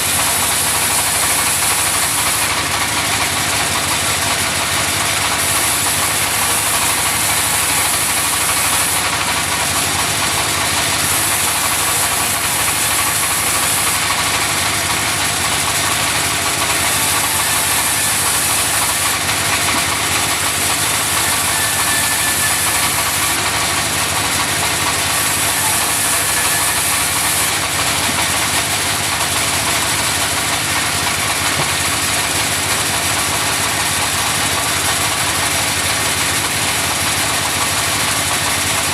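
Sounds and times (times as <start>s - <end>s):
sawmill sawing logs: 0.0s - 38.9s.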